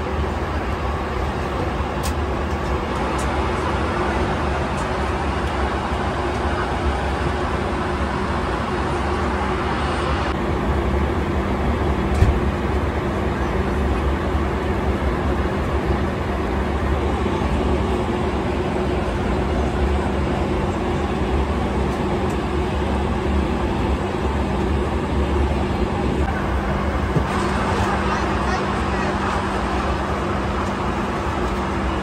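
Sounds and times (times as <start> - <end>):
airliner cabin engine roar: 0.0 - 32.0.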